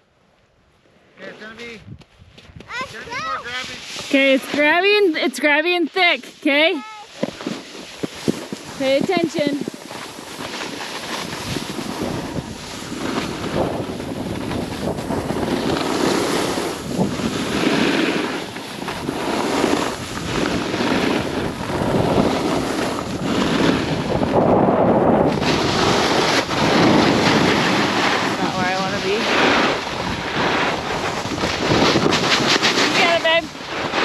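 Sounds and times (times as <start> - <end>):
snowboard scraping snow: 1.2 - 1.8, 2.7 - 34.0
wind rushing over microphone: 1.6 - 34.0.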